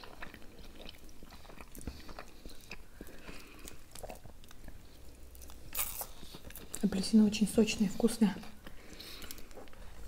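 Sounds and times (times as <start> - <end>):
chewing croissant: 0.0 - 7.2, 8.6 - 10.0.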